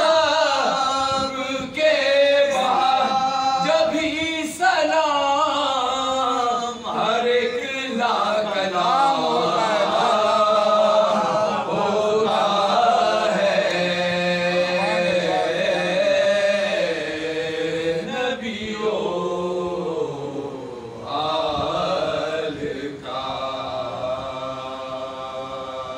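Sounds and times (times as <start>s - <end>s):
lead voice singing verse: 0.0s - 25.9s
men chanting: 0.0s - 25.9s.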